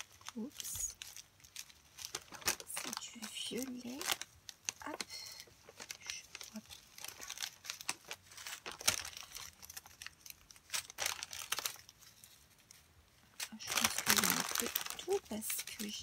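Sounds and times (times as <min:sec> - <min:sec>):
plastic bags crinkling: 0:00.0 - 0:16.0.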